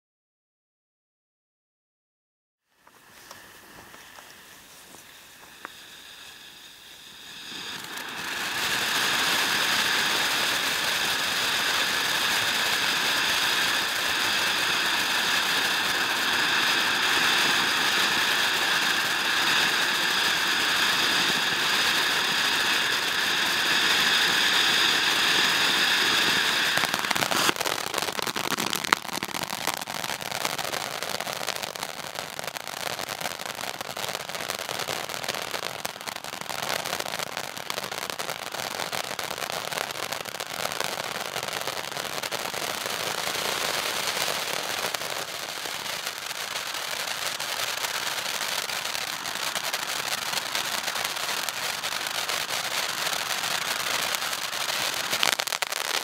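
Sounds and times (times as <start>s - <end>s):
firework crackling: 2.6s - 56.0s
firework fountain hissing: 2.6s - 56.0s.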